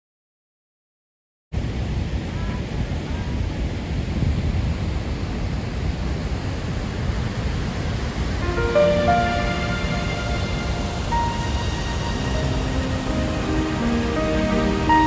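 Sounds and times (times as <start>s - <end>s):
wind buffeting microphone: 1.6s - 15.0s.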